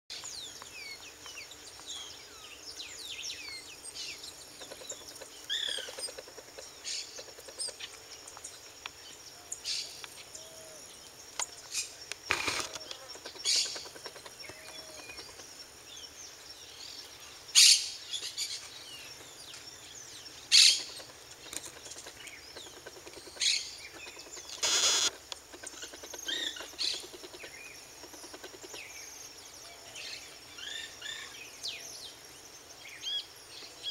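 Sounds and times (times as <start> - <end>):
songbirds chirping: 0.1 - 33.9.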